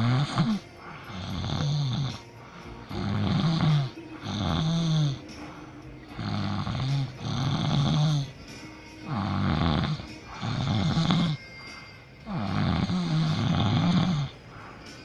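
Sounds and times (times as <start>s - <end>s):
person snoring loudly: 0.0s - 8.4s, 9.0s - 11.6s, 12.2s - 14.7s.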